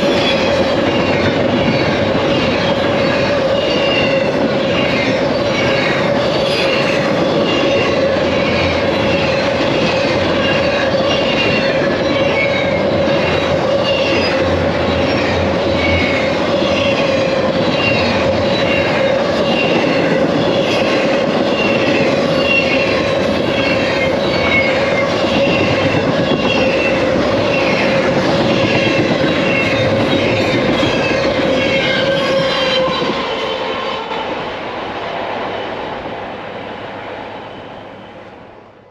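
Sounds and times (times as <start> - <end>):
train wheels squealing: 0.0 - 34.3, 37.3 - 38.4
freight train rolling past: 0.0 - 38.9.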